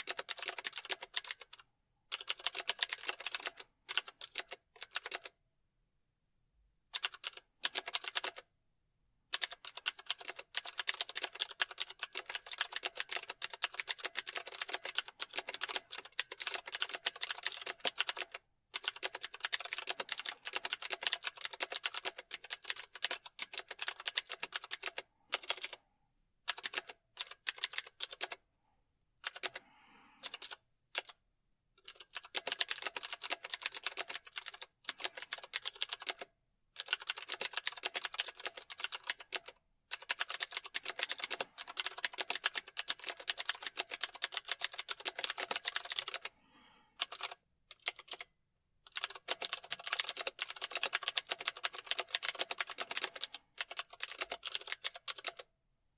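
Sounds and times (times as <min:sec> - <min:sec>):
keyboard typing: 0:00.0 - 0:05.4, 0:06.9 - 0:08.5, 0:09.3 - 0:25.8, 0:26.5 - 0:28.4, 0:29.2 - 0:29.6, 0:30.2 - 0:31.2, 0:31.8 - 0:46.3, 0:47.0 - 0:48.3, 0:48.9 - 0:55.5.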